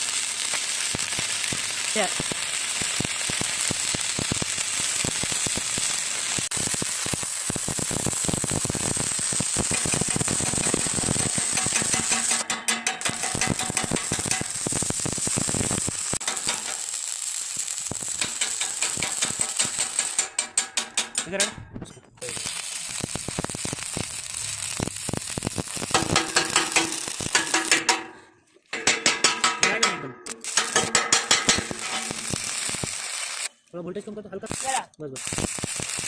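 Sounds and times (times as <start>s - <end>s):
arc welding crackling sizzle: 0.0s - 21.5s, 22.2s - 36.0s.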